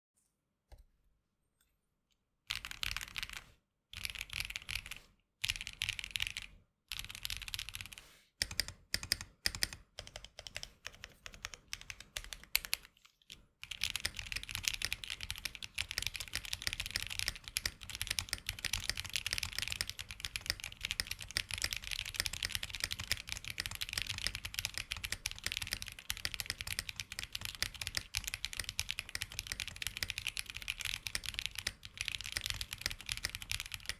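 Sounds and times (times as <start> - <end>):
mechanical keyboard typing: 2.5 - 12.9, 13.6 - 33.9.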